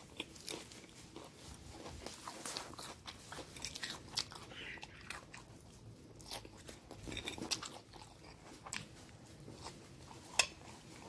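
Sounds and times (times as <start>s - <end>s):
chewing crunchy salad: 0.0s - 11.0s.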